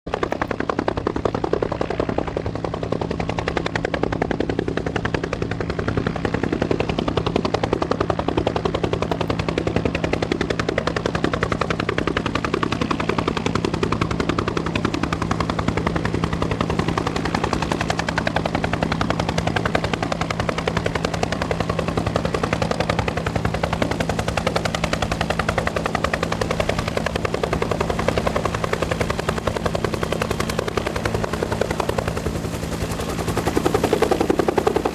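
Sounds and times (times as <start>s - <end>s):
helicopter rotor blade slap: 0.1s - 34.9s
turbine engine hum: 0.1s - 34.9s.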